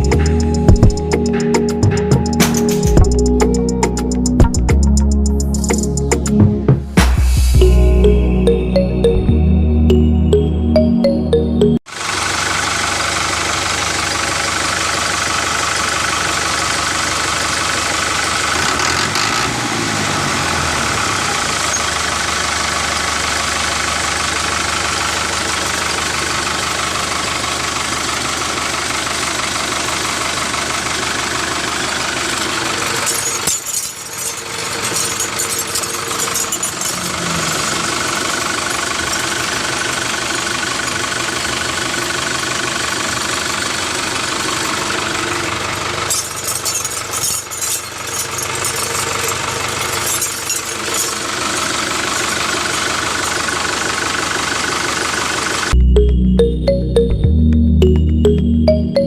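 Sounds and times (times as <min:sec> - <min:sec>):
tractor engine idling: 0:00.0 - 0:09.2, 0:11.9 - 0:57.1.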